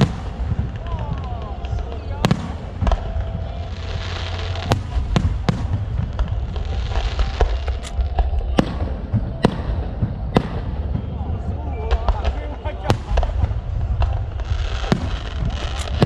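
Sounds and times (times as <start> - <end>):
crackling hiss and rumble: 0.0 - 16.0
fireworks bangs: 0.0 - 16.0.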